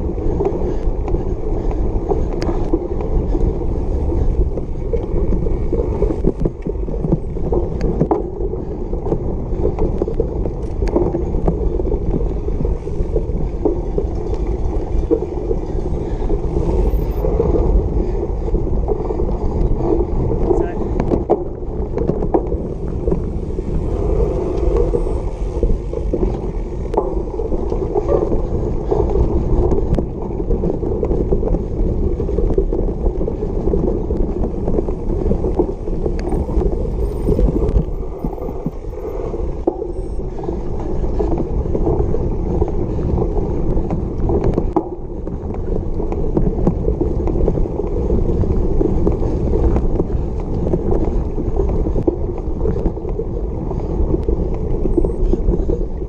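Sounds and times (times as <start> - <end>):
bike rattling over bumpy grass: 0.0 - 56.0.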